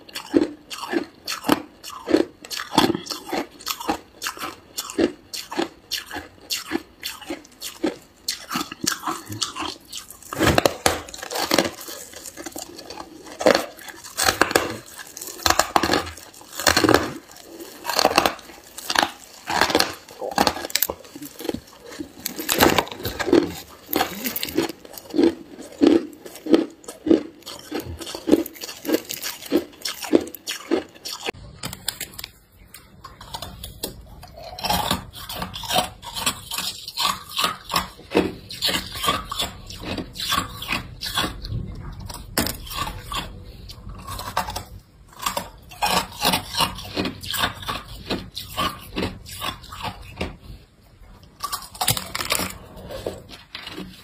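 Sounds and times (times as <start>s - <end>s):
ice crunching while chewed: 0.0s - 54.0s.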